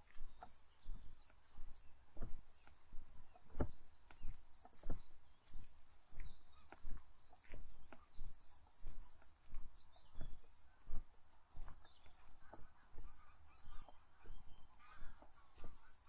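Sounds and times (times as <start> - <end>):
footsteps: 0.0 - 16.0
small birds chirping: 0.0 - 16.0.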